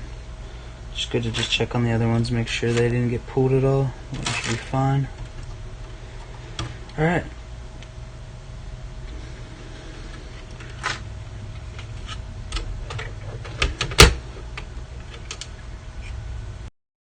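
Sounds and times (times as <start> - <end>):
low hum: 0.0 - 16.7.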